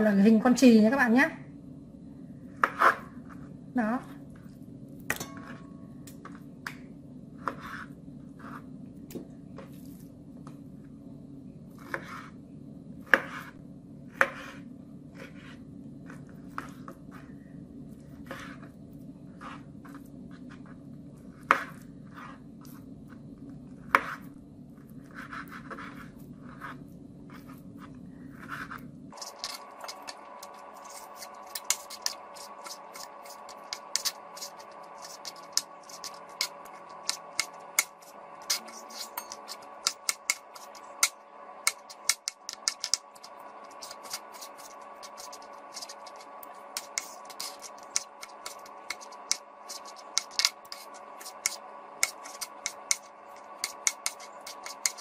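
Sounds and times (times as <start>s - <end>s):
faint higher hum: 0.0s - 55.0s
low hum: 0.0s - 55.0s.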